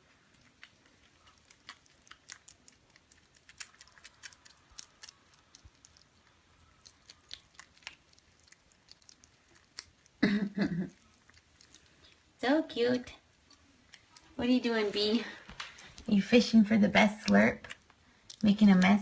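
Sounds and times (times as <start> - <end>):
kittens chewing: 0.0 - 19.0.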